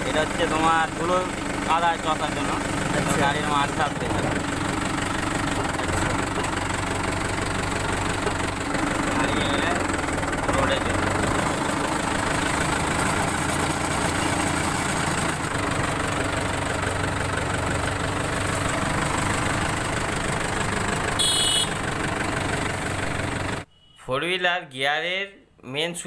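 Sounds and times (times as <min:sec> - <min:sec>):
tractor diesel engine idling: 0:00.0 - 0:23.7.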